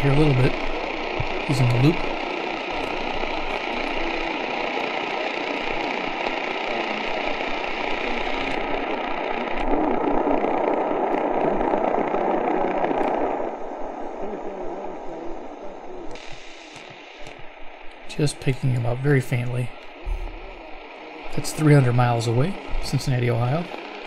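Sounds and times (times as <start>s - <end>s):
faint distant radio signal: 0.0s - 24.0s
radio static hiss: 0.0s - 24.0s.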